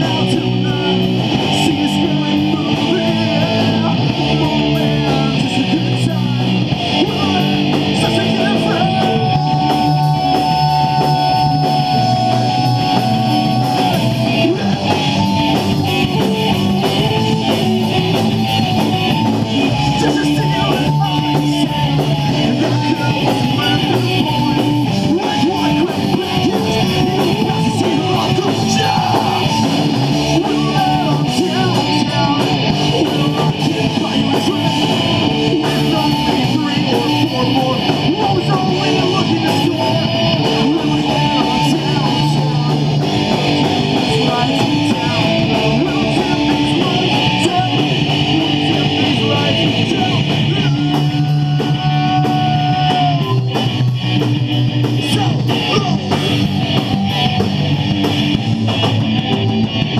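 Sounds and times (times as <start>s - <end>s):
vocalist singing: 0.0s - 57.5s
bass guitar: 0.0s - 59.9s
distorted electric guitars: 0.0s - 59.9s
drum kit: 0.0s - 59.9s.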